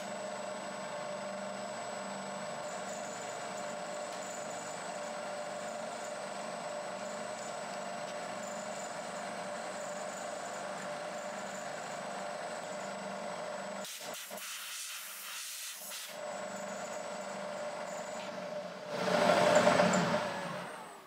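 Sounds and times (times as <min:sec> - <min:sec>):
milling machine whine: 0:00.0 - 0:13.9, 0:16.2 - 0:21.0.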